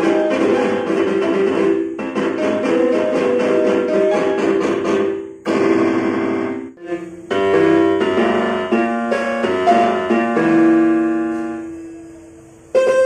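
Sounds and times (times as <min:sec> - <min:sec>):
toy keyboard piano notes: 0:00.0 - 0:11.8, 0:12.7 - 0:13.0.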